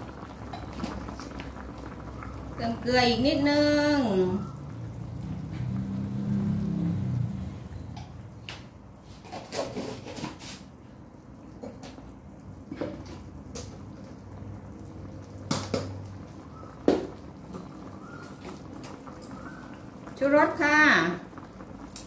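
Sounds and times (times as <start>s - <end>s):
soup simmering with bubbling hiss: 0.0s - 22.0s.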